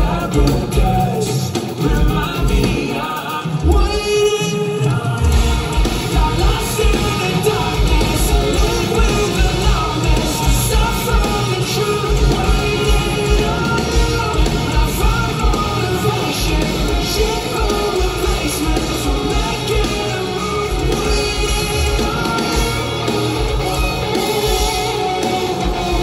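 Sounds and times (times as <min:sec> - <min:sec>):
person singing: 0:00.0 - 0:26.0
rock band playing live: 0:00.0 - 0:26.0.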